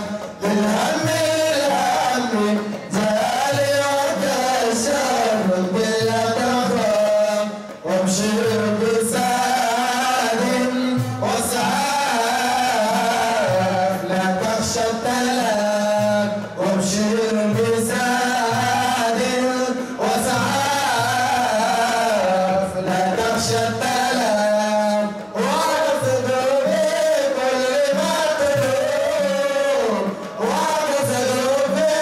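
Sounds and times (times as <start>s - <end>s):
voices singing devotional song: 0.0s - 32.0s.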